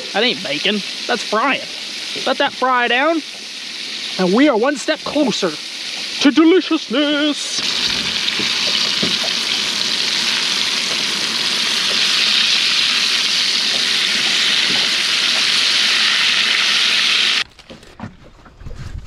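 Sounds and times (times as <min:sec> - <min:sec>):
fish deep-frying in oil: 0:00.0 - 0:17.7.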